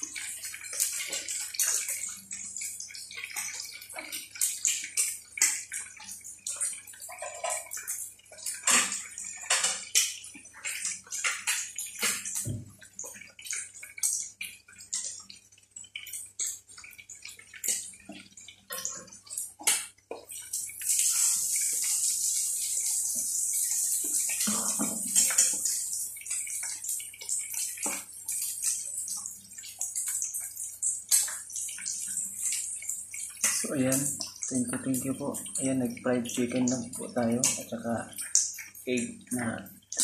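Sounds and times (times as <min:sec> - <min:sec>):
oil sizzling and popping: 0:00.0 - 0:40.0.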